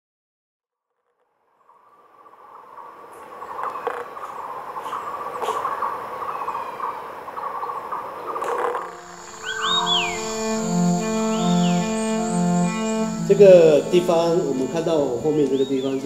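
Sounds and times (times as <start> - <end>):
insects trilling: 2.5 - 16.0.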